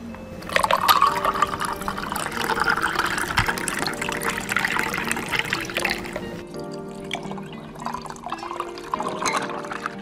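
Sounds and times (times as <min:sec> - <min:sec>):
drink pouring into a glass: 0:00.4 - 0:10.0.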